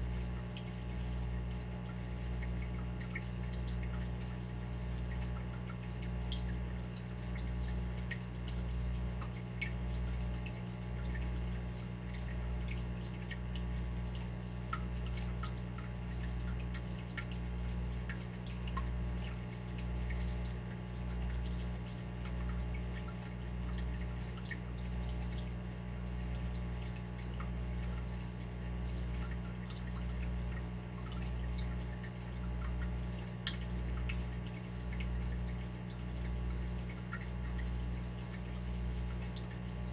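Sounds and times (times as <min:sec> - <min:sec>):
water dripping: 0:00.1 - 0:39.9.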